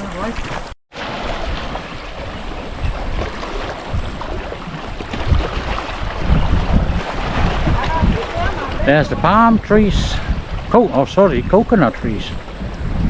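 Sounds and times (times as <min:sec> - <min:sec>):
sea washing on shore: 0:00.0 - 0:13.0
wind buffeting microphone: 0:00.0 - 0:13.0.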